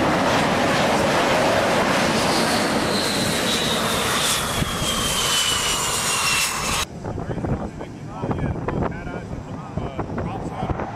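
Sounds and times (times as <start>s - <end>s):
high turbine whine: 0.0s - 10.9s
jet engines roaring: 0.0s - 10.9s.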